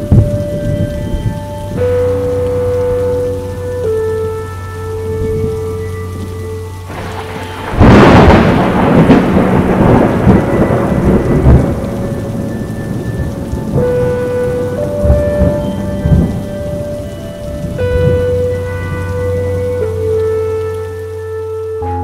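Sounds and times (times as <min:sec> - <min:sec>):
heavy rain falling: 0:00.0 - 0:22.0
thunderclap rumbling: 0:00.0 - 0:22.0.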